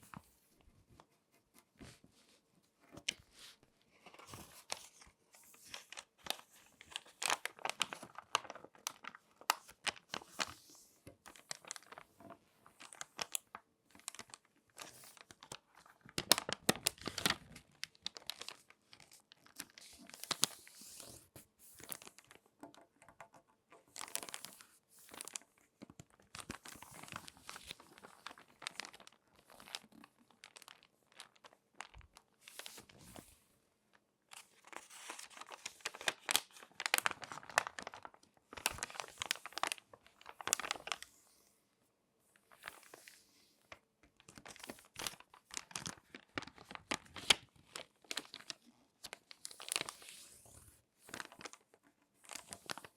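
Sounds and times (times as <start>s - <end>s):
magazine pages crinkling: 3.0s - 21.2s, 23.9s - 33.3s, 34.3s - 41.2s, 44.2s - 52.9s.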